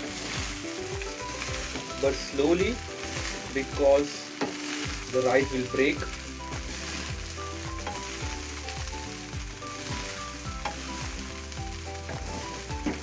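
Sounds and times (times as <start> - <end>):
rice being tossed and stirred: 0.0 - 13.0
rice sizzling in oil: 0.0 - 13.0.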